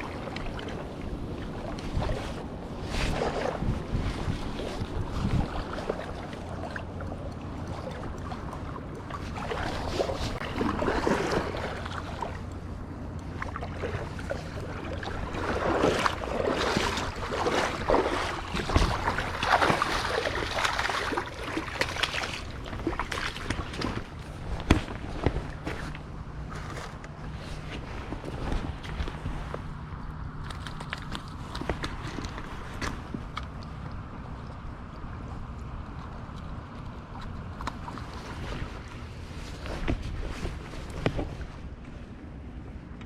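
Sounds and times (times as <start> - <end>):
water sloshing and splashing: 0.0 - 43.0
wind rumble on microphone: 0.0 - 43.0.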